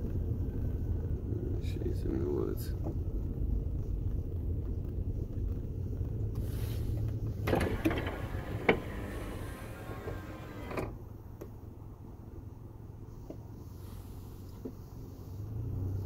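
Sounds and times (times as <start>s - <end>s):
car driving slowly: 0.0s - 16.0s.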